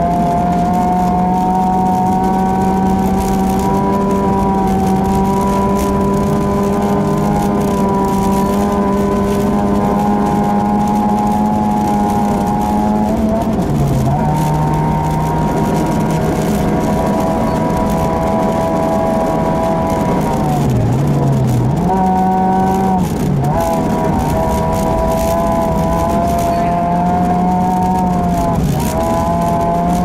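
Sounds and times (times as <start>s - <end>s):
car engine revving hard: 0.0s - 30.0s
road noise: 0.0s - 30.0s.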